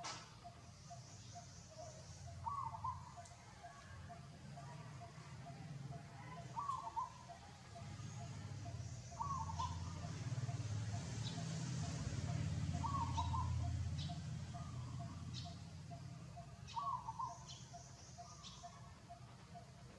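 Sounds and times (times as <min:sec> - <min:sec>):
bird warbling call: 0:00.0 - 0:03.8, 0:04.6 - 0:19.7.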